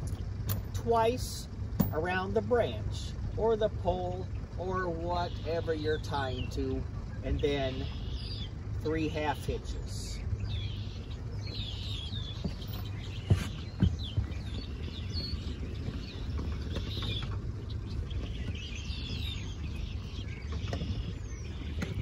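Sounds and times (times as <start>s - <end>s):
low rumble: 0.0s - 22.0s
small birds chirping: 0.0s - 22.0s.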